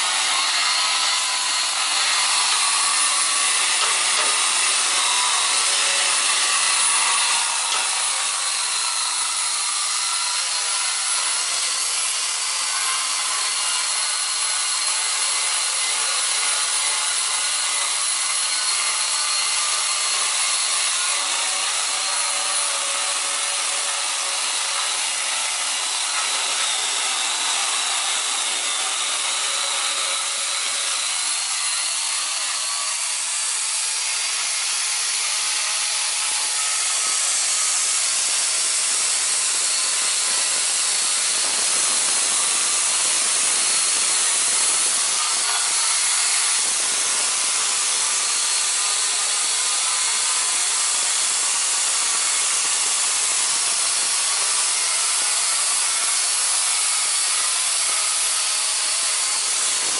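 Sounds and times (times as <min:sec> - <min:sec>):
grinders grinding steel: 0:00.0 - 0:59.9.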